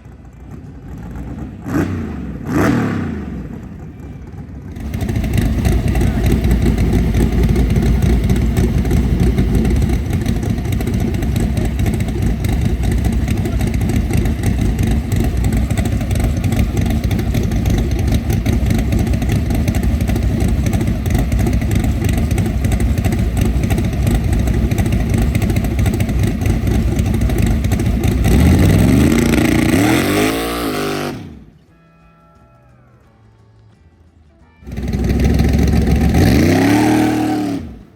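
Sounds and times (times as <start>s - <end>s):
car engine revving loud: 1.3s - 3.7s, 4.8s - 31.5s, 34.7s - 37.9s.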